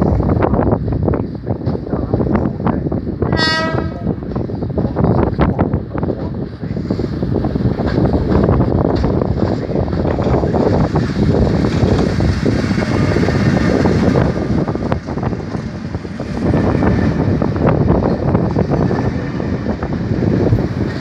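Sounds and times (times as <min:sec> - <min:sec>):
train wheels rumbling on rail: 0:00.0 - 0:21.0
wind buffeting microphone: 0:00.0 - 0:21.0.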